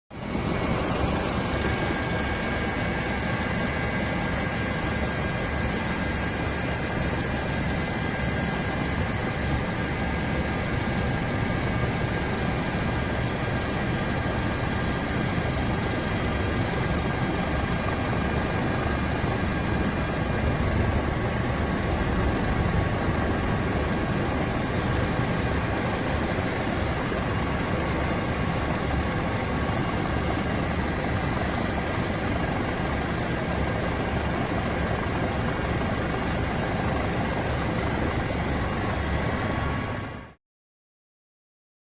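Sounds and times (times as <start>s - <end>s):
helicopter rotor and engines: 0.1s - 40.4s.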